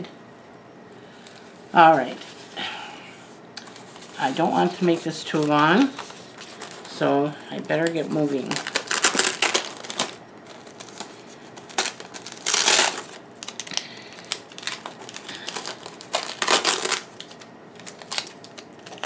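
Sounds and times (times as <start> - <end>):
packing paper rustling: 3.6 - 19.0.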